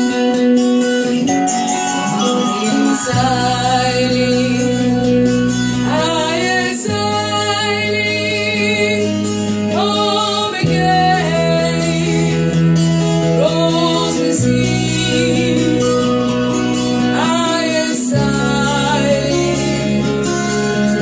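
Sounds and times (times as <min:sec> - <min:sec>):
song with singing voice: 0:00.0 - 0:21.0.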